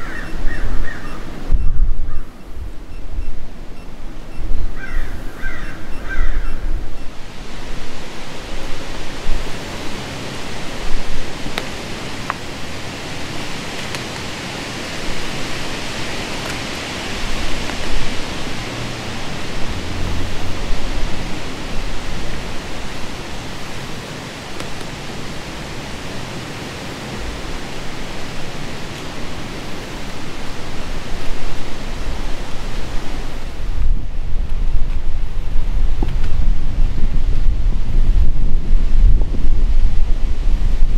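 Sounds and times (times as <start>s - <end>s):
wind buffeting microphone: 0.0s - 40.9s
wind rushing through leaves: 0.0s - 40.9s.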